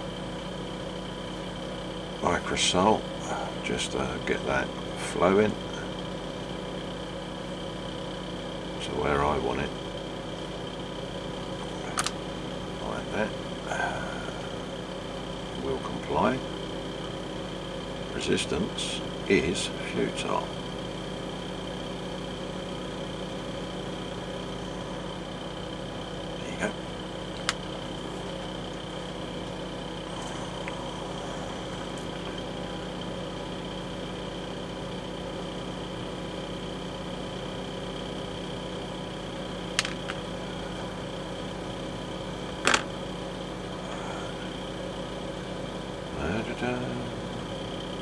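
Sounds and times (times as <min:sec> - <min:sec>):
fan humming: 0:00.0 - 0:48.0.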